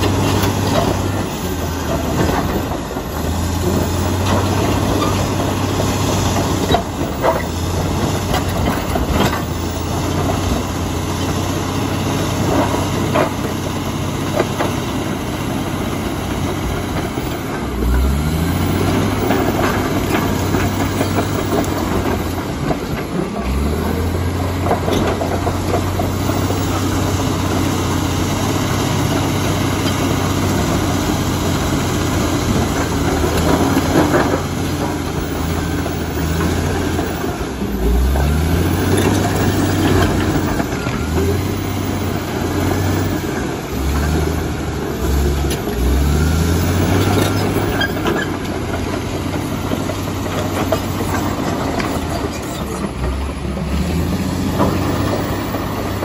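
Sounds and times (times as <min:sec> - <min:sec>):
bulldozer diesel engine: 0:00.0 - 0:56.0
steel tracks clanking: 0:00.0 - 0:56.0.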